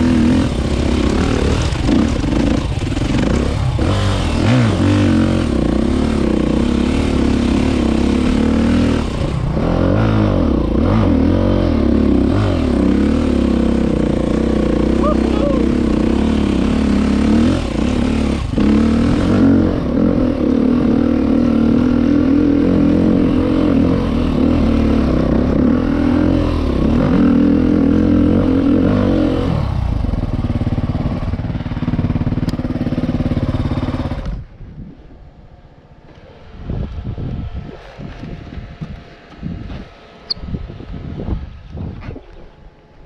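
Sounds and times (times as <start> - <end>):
motorbike engine running: 0.0 - 34.6.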